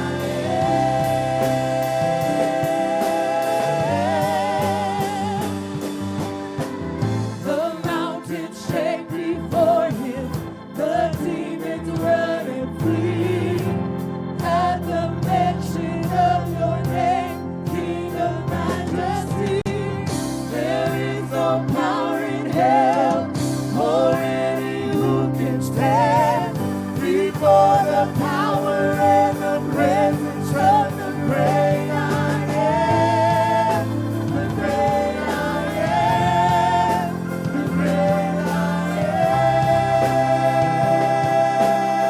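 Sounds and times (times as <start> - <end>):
bass: 0.0 - 42.0
singers wavering melody: 0.0 - 42.0
sustained keyboard chords: 0.0 - 42.0.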